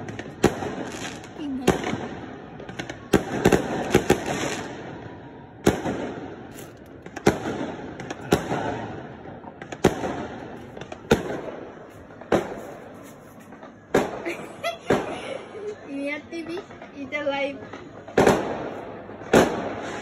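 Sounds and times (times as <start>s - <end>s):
fireworks bangs echoing: 0.0s - 15.9s, 16.6s - 20.0s
continuous din of fireworks: 0.0s - 20.0s.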